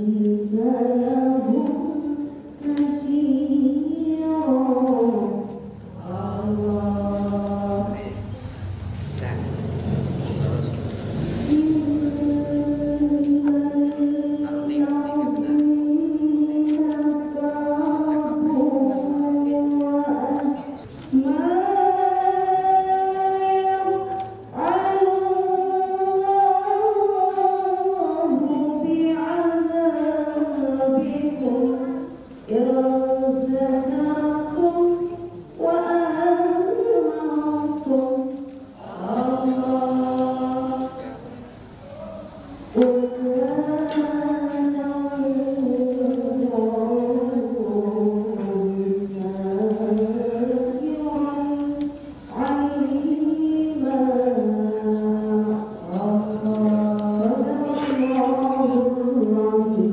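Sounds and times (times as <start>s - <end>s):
person singing slow melody: 9.6s - 59.9s.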